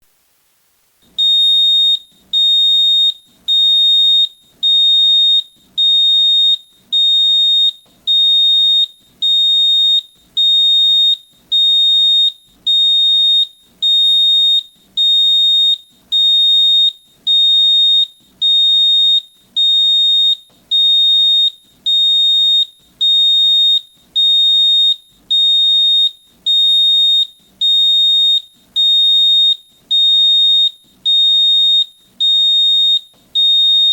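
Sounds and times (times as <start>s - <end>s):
high-pitched alarm beeps: 1.2s - 33.9s.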